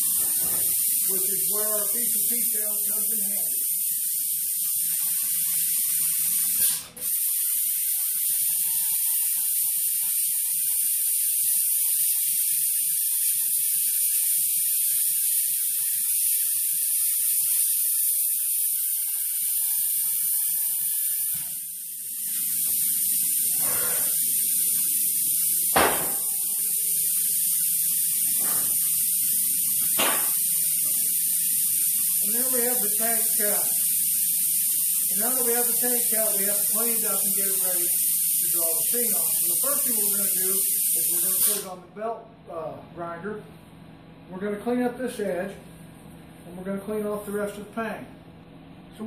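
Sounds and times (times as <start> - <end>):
plasma cutter hissing: 0.0 - 41.7.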